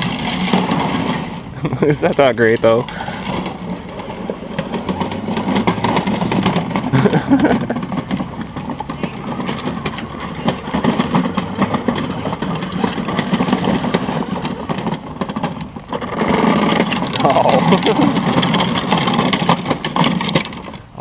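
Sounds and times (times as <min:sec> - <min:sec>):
tyres rustling over grass: 0:00.0 - 0:21.0.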